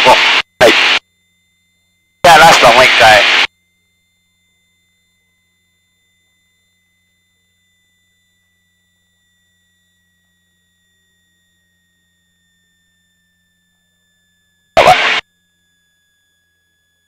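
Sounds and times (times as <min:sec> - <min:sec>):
high-pitched two-tone whine: 0:00.0 - 0:17.0.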